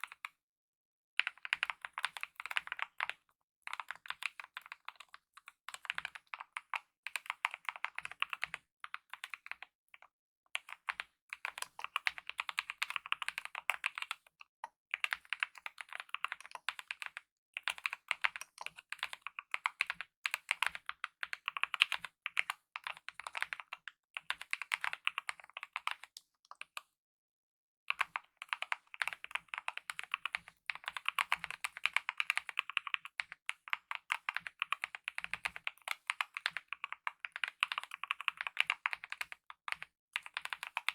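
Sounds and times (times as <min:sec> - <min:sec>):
mechanical keyboard typing: 0:01.2 - 0:09.6, 0:10.6 - 0:14.3, 0:14.9 - 0:26.7, 0:27.9 - 0:40.9.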